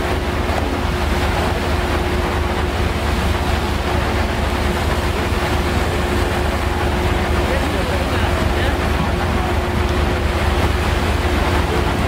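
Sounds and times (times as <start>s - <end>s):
constant hum: 0.0s - 12.0s
ship engines rumbling: 0.0s - 12.0s
wind and water rushing: 0.0s - 12.0s.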